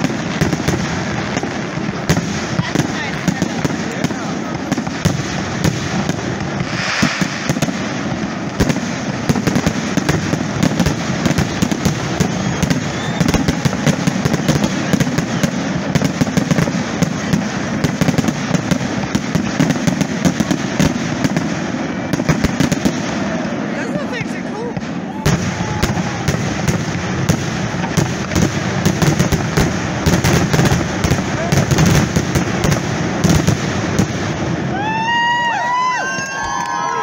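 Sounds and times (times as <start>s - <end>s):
fireworks booming: 0.0s - 37.0s
fireworks crackling: 0.0s - 37.0s
fireworks pops and bangs: 0.0s - 37.0s.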